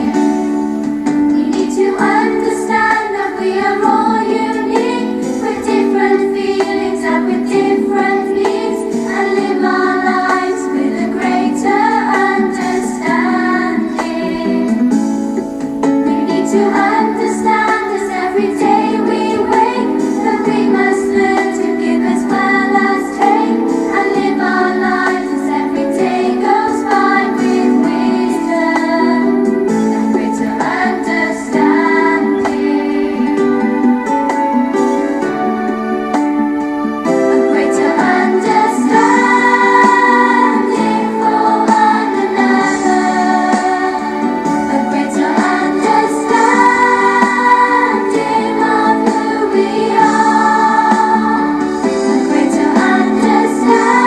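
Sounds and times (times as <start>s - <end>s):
people singing: 0.0s - 15.1s, 15.8s - 34.2s, 37.1s - 54.0s
instrumental backing music: 0.0s - 54.0s.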